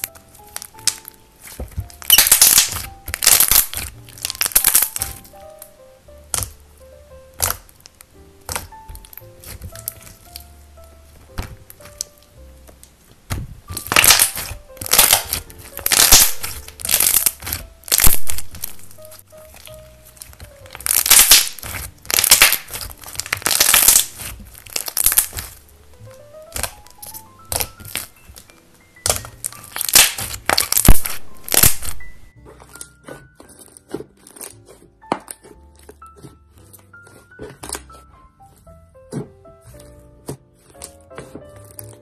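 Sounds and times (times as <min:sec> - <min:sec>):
slime crackling and popping: 0:00.0 - 0:38.1, 0:39.6 - 0:42.0
quiet background music: 0:00.0 - 0:42.0.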